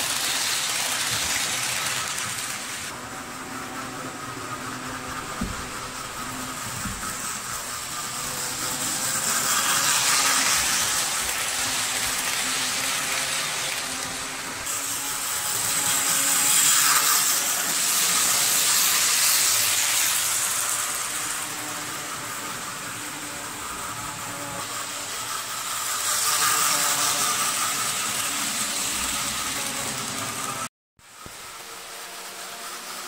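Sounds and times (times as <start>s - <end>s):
model train wheels rattling: 0.0s - 33.0s.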